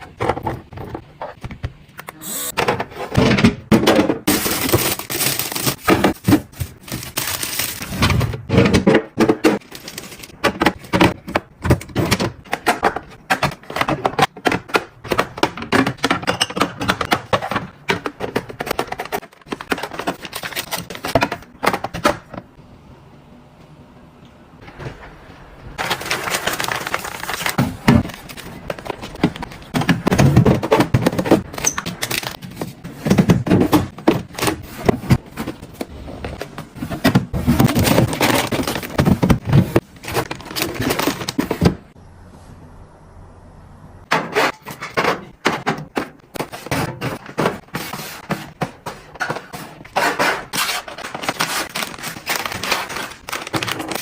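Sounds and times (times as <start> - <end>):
food containers clicking and knocking: 0.0 - 1.9, 2.5 - 22.6, 25.8 - 42.0, 44.1 - 54.0.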